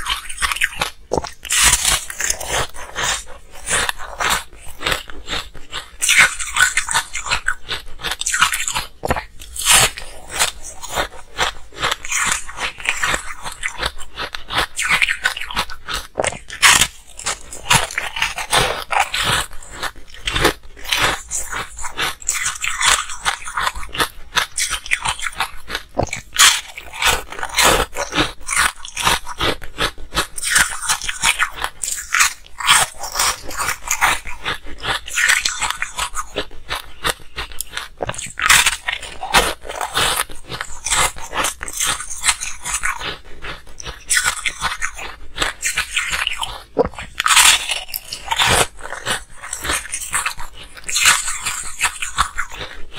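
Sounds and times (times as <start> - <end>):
ice crunching being chewed: 0.0 - 52.9.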